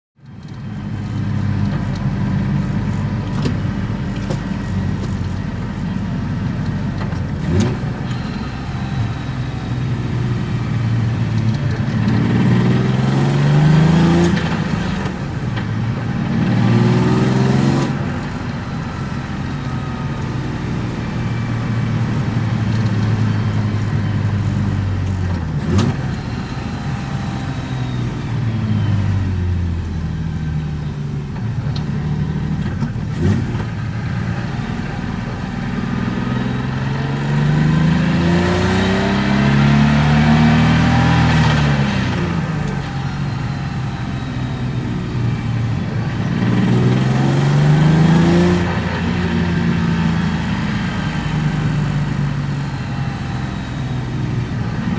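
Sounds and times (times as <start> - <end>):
car engine accelerating: 0.2 - 54.9.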